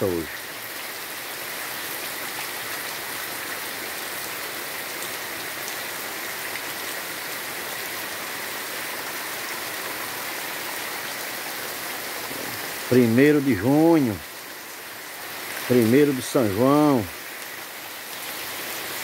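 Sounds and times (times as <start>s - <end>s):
heavy rain falling: 0.0s - 19.0s
water running off roof: 0.0s - 19.0s.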